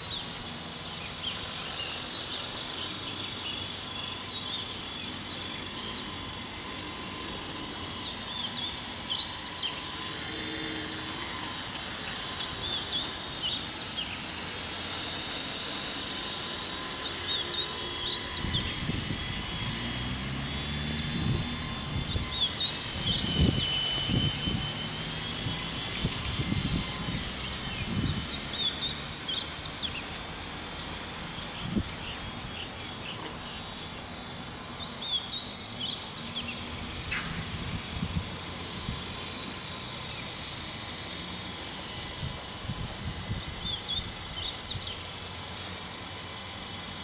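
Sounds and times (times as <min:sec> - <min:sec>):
birds chirping: 0:00.0 - 0:38.0, 0:39.0 - 0:40.9, 0:43.3 - 0:45.4
toy helicopter motor whine: 0:00.0 - 0:47.0.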